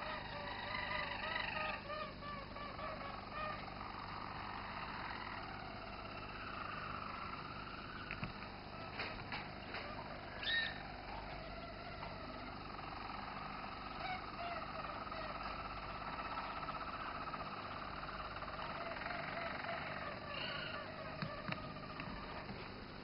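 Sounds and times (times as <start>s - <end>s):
canary singing rolling trill: 0.0s - 23.0s.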